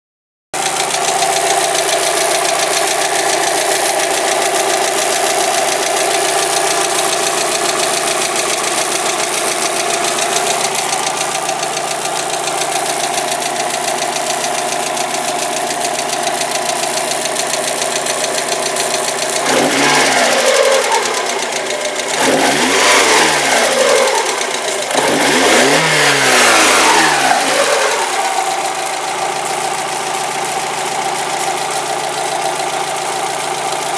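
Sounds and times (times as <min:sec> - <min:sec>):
car engine idling and revving: 0:00.6 - 0:33.9.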